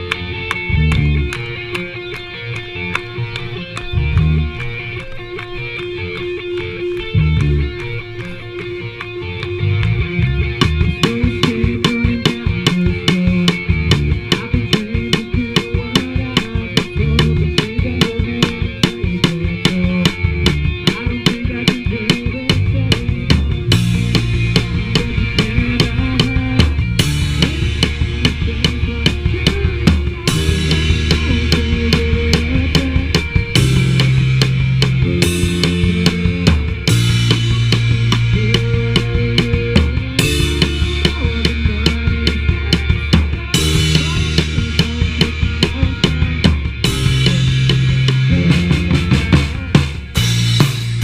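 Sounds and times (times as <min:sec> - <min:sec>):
bass line: 0:00.0 - 0:51.0
drum kit beat: 0:00.0 - 0:51.0
live rock band jamming: 0:00.0 - 0:51.0.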